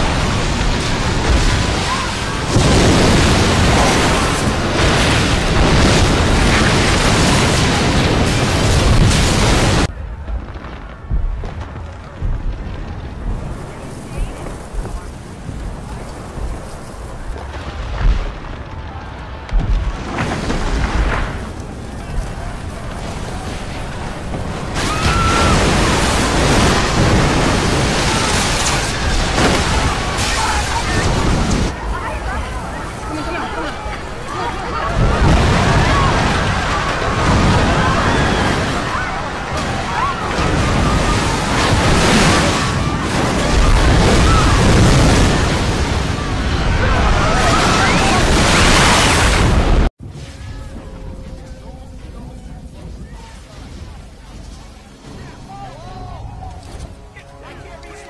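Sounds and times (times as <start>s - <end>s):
rush of water: 0.0s - 9.9s, 13.3s - 50.4s
crashing debris: 0.0s - 57.3s
market bustle with voices: 0.0s - 58.0s.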